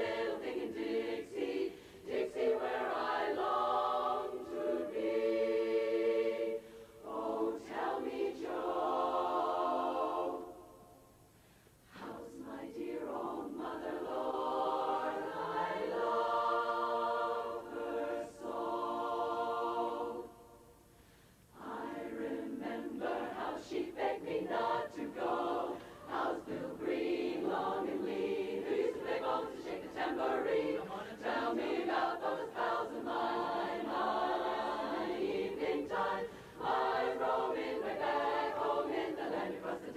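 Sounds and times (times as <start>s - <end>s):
women's chorus singing a cappella: 0.0s - 11.2s, 11.9s - 20.8s, 21.5s - 39.9s.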